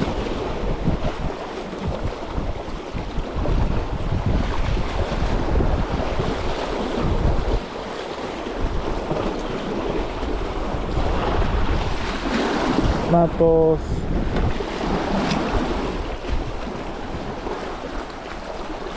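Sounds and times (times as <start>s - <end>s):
sea waves: 0.0s - 18.9s
wind buffeting microphone: 0.0s - 18.9s.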